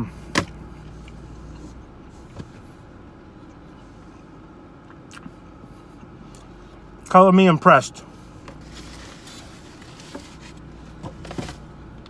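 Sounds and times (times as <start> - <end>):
car cabin hum and hiss: 0.0 - 12.0.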